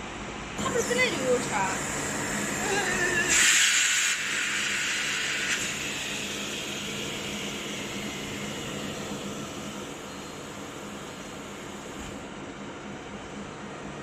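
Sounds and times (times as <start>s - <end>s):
machine hum: 0.0s - 14.0s
loud machine hiss: 0.6s - 12.2s.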